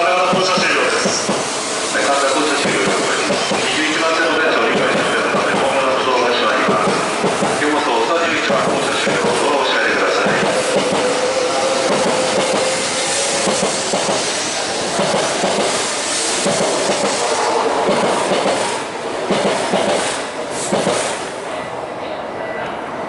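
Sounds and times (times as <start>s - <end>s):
train wheel and rail noise: 0.0s - 23.0s.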